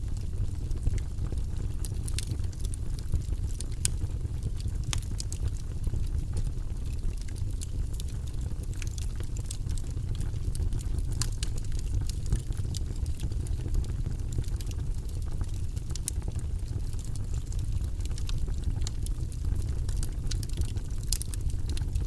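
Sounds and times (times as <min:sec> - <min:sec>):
log fire crackling and popping: 0:00.0 - 0:22.0
low rumble of flames: 0:00.0 - 0:22.0.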